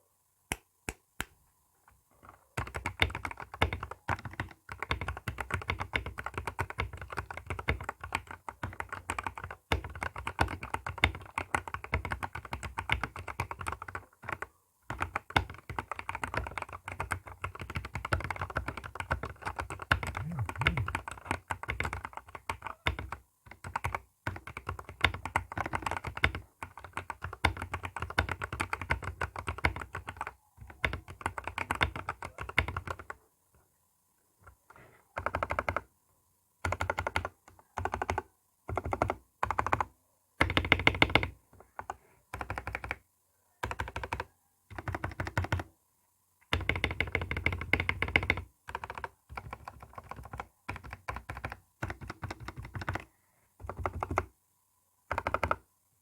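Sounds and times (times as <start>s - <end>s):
mechanical keyboard typing: 2.2s - 33.2s, 35.2s - 35.9s, 36.6s - 43.0s, 43.6s - 45.7s, 46.5s - 54.3s, 55.1s - 55.6s.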